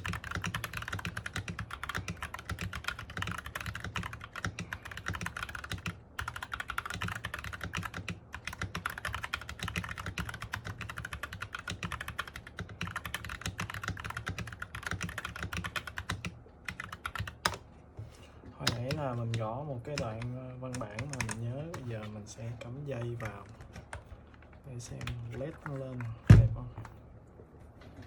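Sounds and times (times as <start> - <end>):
fast mechanical keyboard typing: 0.0 - 17.6, 18.6 - 22.1, 23.0 - 24.1, 24.8 - 26.2.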